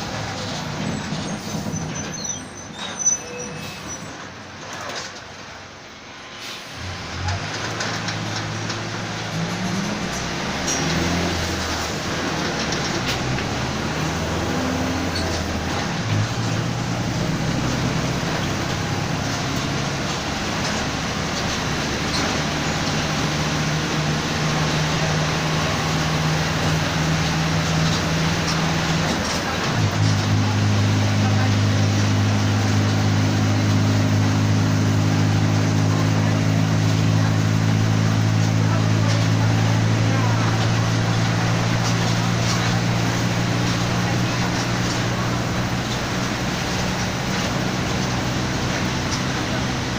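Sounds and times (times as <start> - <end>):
bus diesel engine humming: 0.0 - 49.9.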